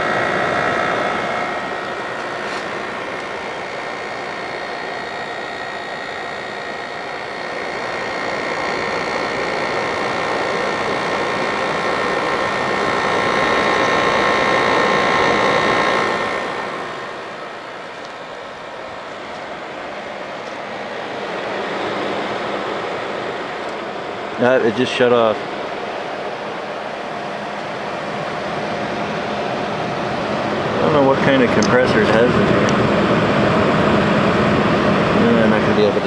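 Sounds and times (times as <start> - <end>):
air conditioner fan rushing: 0.0 - 36.0
quiet compressor: 0.0 - 36.0
steady tones: 0.0 - 36.0.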